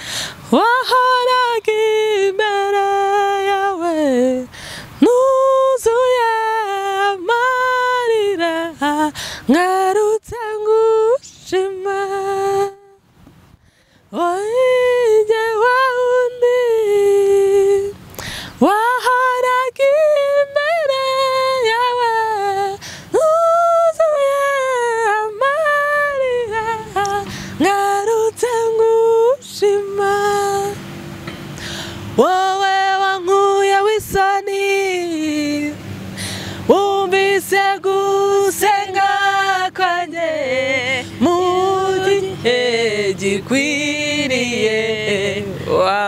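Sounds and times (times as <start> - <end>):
woman singing gospel song: 0.0 - 13.1, 14.0 - 30.9, 31.6 - 46.0.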